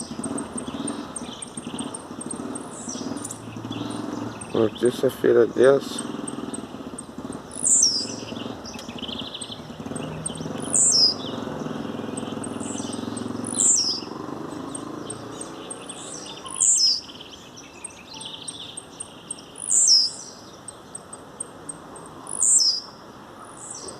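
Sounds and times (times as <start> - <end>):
bird singing high falling phrases: 0.0 - 23.0.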